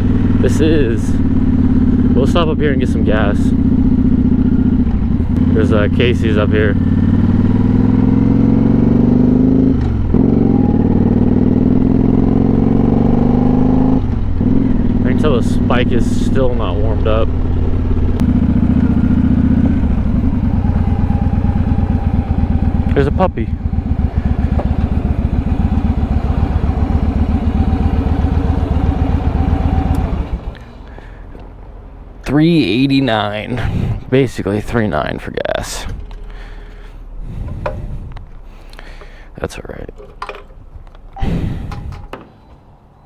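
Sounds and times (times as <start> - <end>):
motorcycle engine running: 0.0 - 42.2.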